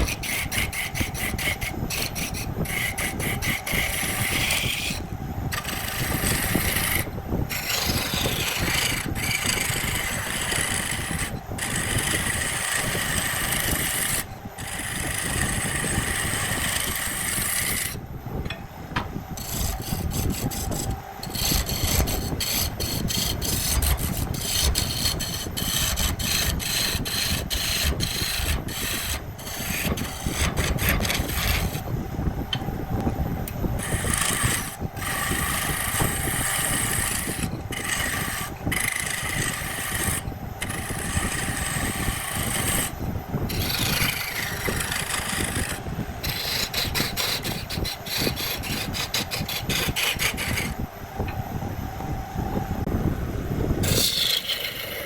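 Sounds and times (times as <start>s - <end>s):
tool scraping spinning wood: 0.0s - 31.9s, 33.7s - 50.8s, 53.8s - 55.0s.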